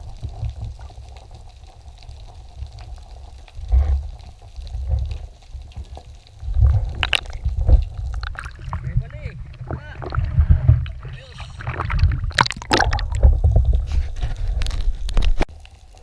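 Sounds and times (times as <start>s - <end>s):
muffled underwater water rush: 0.0s - 16.0s.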